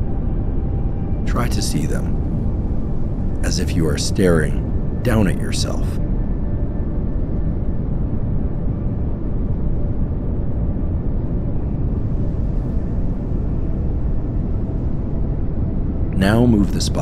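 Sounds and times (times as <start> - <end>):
steady pink noise hiss: 0.0 - 17.0.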